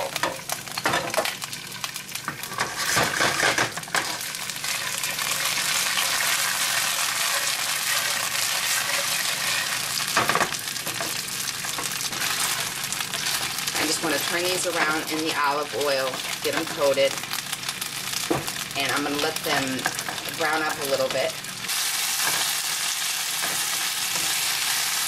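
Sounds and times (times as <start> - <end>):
beans sizzling in hot oil: 0.0 - 25.0.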